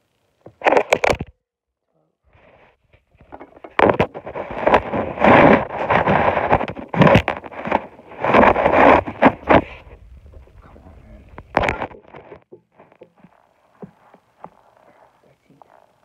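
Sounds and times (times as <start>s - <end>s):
cloth rubbing against microphone: 2.3s - 16.0s.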